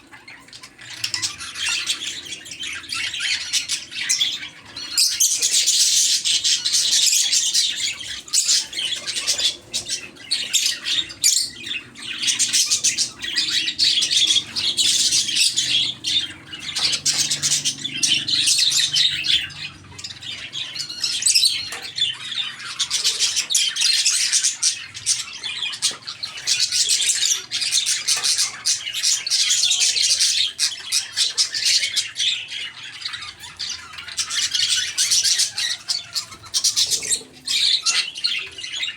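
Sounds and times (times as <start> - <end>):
parakeets chattering and squawking: 0.0 - 38.9.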